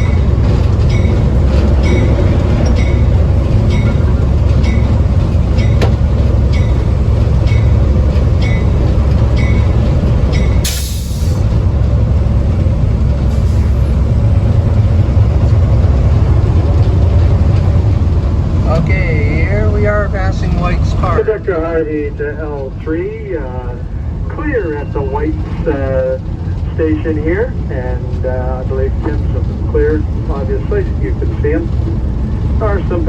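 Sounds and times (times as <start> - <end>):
railway car rumbling on track: 0.0 - 33.0.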